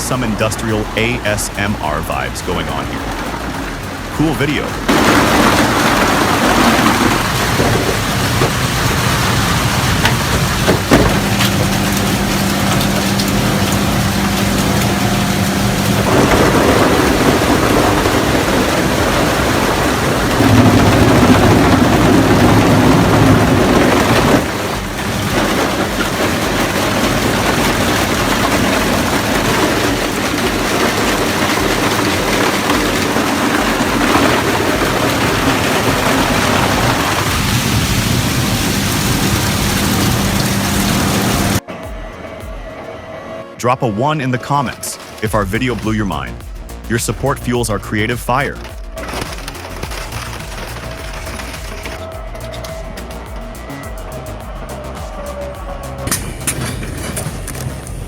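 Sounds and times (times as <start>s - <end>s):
shredder grinding and crunching: 0.0s - 41.6s, 47.9s - 58.0s
steady machine hum: 0.0s - 58.0s.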